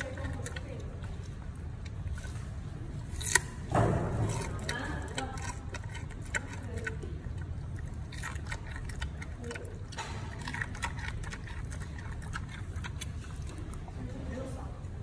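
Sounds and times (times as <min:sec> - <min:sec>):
panda chewing carrot: 0:00.0 - 0:15.0.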